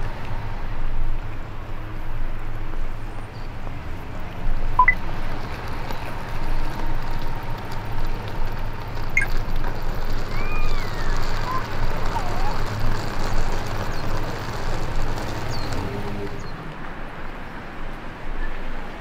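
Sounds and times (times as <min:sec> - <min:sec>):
low city hum: 0:00.0 - 0:19.0.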